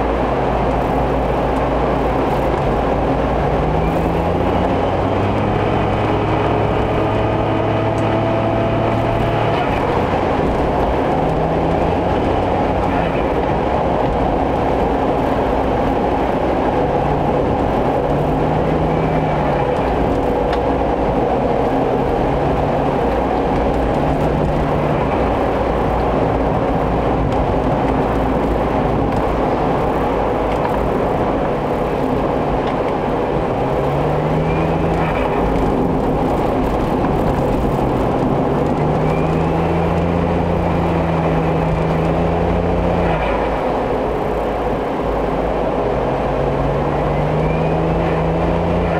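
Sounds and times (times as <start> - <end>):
road noise: 0.0 - 48.9
van engine: 0.0 - 48.9.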